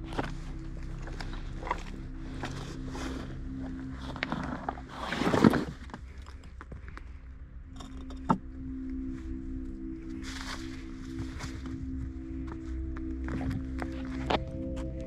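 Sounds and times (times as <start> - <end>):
low ambient drone music: 0.0 - 15.0.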